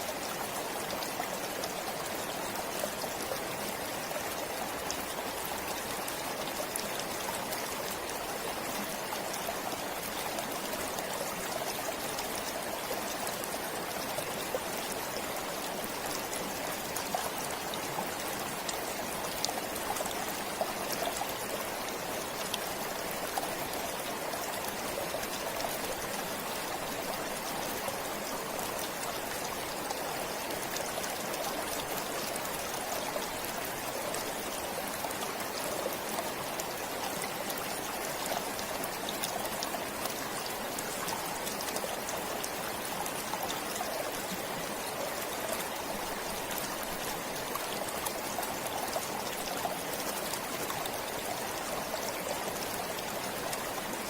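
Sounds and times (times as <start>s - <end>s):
stream flowing: 0.0s - 54.0s
water splashes and trickles: 0.0s - 54.0s.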